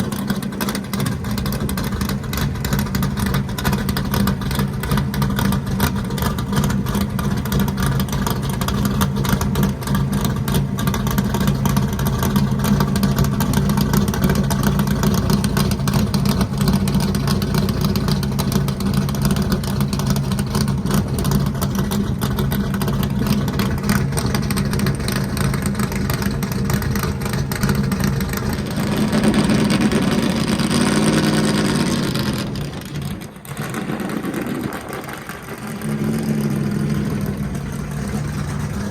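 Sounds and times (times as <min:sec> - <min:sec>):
driving noise: 0:00.0 - 0:38.9
truck engine running: 0:00.0 - 0:38.9.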